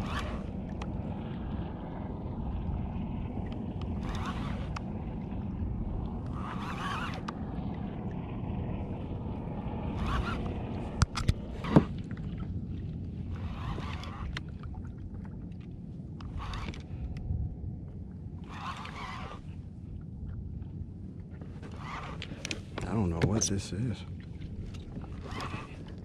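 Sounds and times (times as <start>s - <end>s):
water slapping against hull: 0.0s - 26.0s
wind and sea rumble: 0.0s - 26.0s.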